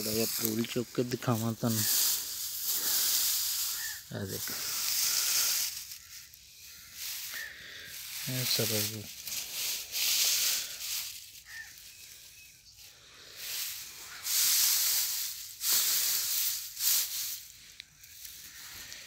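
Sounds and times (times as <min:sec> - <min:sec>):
dry straw rustling: 0:00.0 - 0:19.0.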